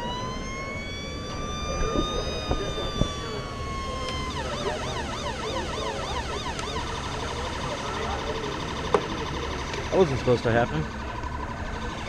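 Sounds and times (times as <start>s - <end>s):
electronic siren changing tones: 0.0s - 12.0s.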